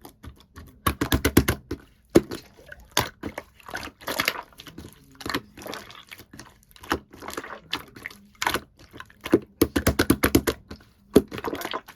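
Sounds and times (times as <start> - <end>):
slime squishing: 0.0 - 11.9.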